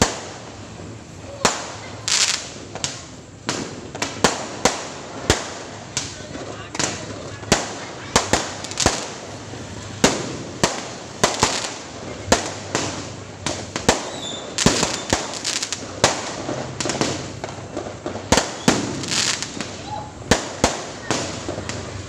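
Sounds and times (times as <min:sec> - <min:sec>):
fireworks banging: 0:00.0 - 0:22.0.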